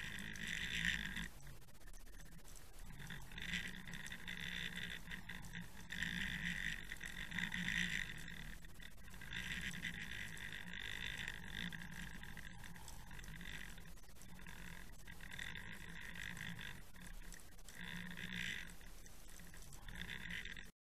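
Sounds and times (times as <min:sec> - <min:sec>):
underwater water rushing and gurgling: 0:00.0 - 0:20.7
low hum: 0:00.0 - 0:20.8.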